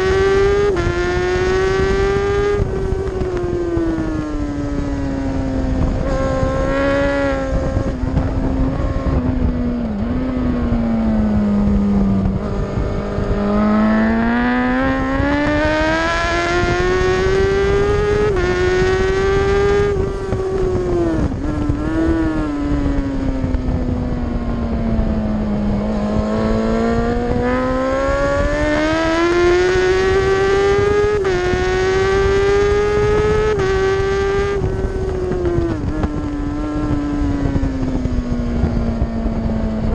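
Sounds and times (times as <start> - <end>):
racing motorcycle engine: 0.0 - 39.9
wind rushing: 0.0 - 39.9.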